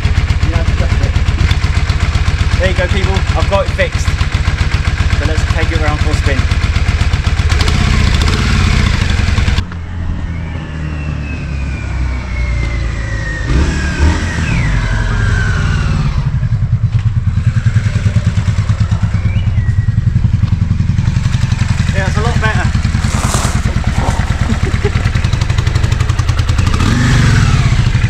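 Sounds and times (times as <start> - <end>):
motorcycle engine running: 0.0 - 10.6, 14.2 - 28.0.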